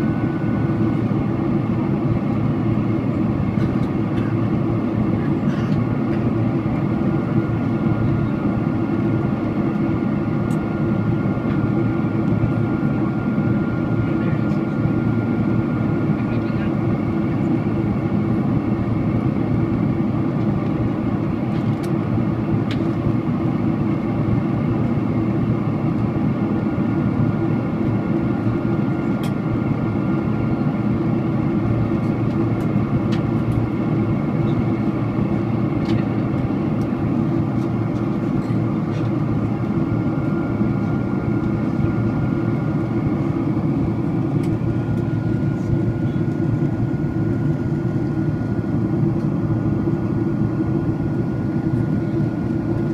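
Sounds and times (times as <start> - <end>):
airliner cabin engine and airflow rush: 0.0 - 52.9.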